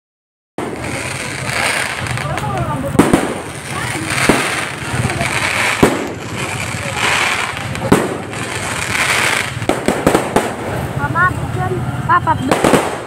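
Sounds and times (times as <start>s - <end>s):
fireworks bangs: 0.6s - 13.0s
fireworks crackling and hissing: 0.6s - 13.0s.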